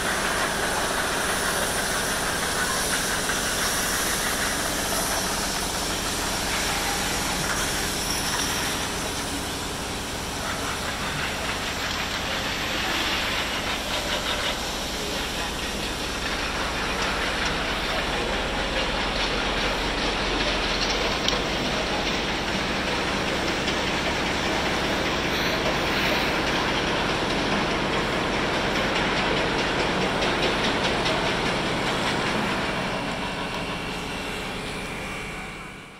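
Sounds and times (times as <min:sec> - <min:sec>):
street noise: 0:00.0 - 0:35.9
tram running on track: 0:00.0 - 0:35.9.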